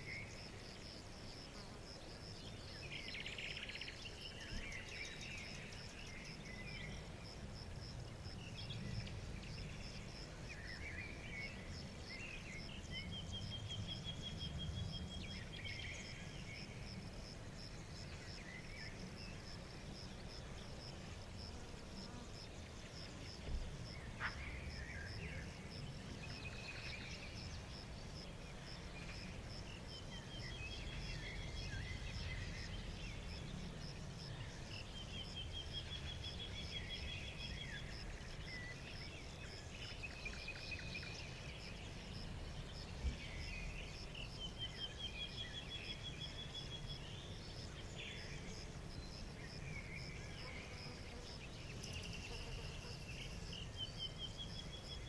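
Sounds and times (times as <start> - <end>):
insect chirping: 0.0 - 55.0.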